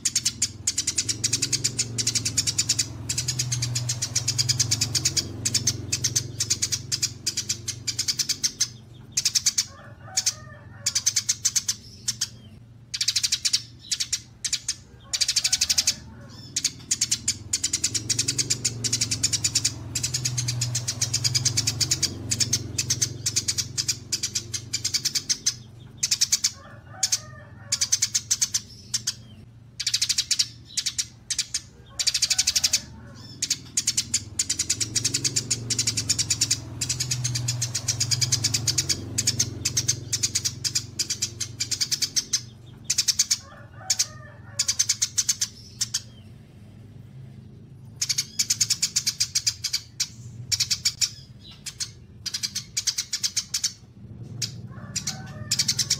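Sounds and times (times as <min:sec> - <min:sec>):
lower bird chirps: 0:00.0 - 0:55.9
songbirds chattering and trilling: 0:00.0 - 0:55.9.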